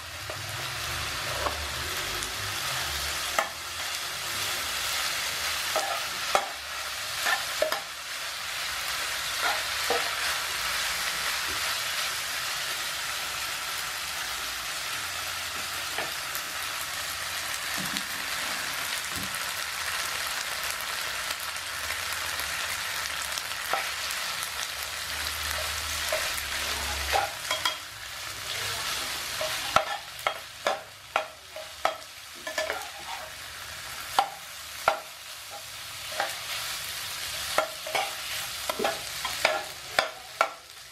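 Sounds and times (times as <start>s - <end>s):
noodles sizzling in a pan: 0.0s - 40.9s.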